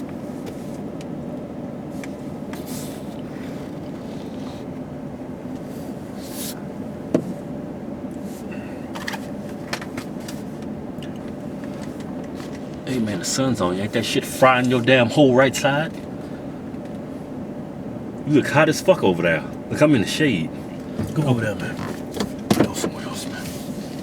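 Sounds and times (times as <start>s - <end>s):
car engine hum: 0.0s - 24.0s.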